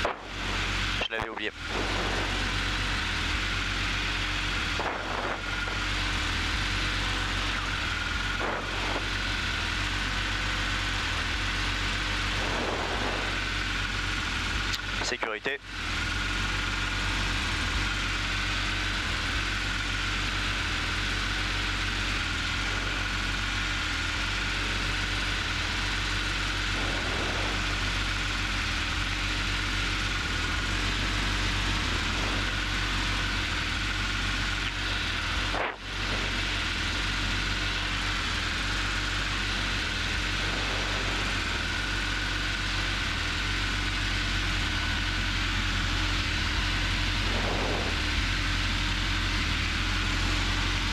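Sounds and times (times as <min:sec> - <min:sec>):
aircraft engine and propeller drone: 0:00.0 - 0:50.9
faint steady whine: 0:00.0 - 0:50.9.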